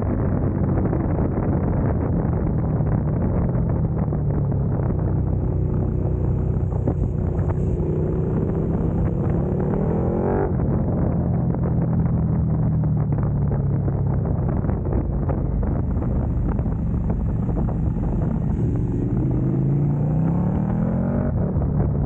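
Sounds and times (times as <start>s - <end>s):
motorcycle engine accelerating: 0.0s - 22.0s
wind rumble: 0.0s - 22.0s.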